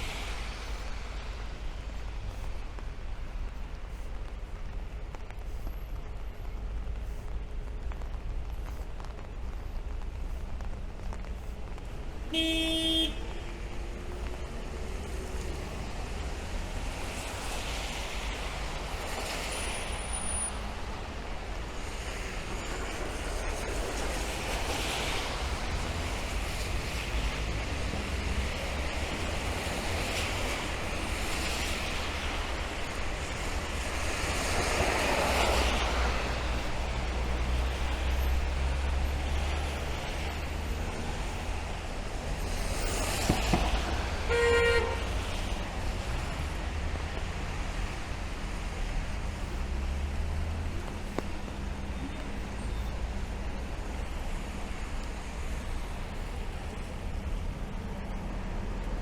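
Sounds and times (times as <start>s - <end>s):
rain hiss: 0.0s - 59.0s
tyres swishing on wet street: 0.0s - 59.0s.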